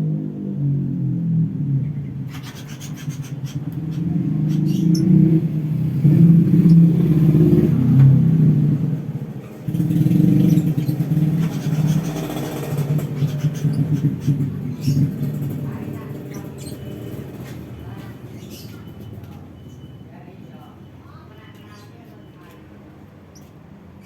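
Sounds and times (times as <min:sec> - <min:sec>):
vehicle engine running: 0:00.0 - 0:19.9.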